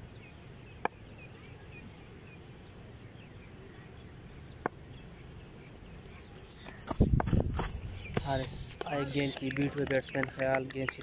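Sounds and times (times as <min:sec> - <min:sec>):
faint outdoor background: 0:00.0 - 0:11.0
small bird chirping: 0:00.0 - 0:11.0.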